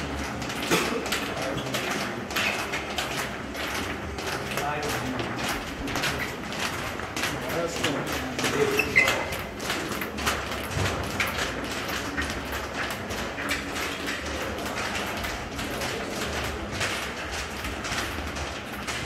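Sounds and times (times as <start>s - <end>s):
group footsteps on hard floor: 0.0s - 19.0s.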